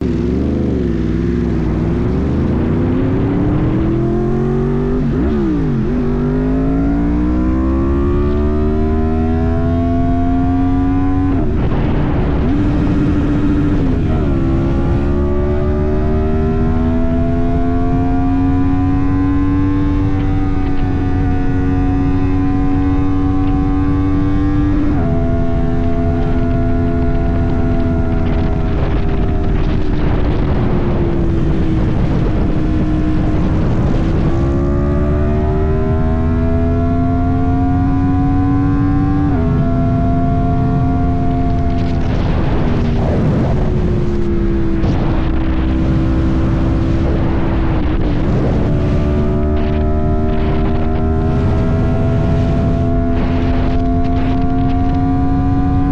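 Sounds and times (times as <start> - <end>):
low wind rumble: 0.0 - 55.9
motorcycle engine revving: 0.0 - 55.9.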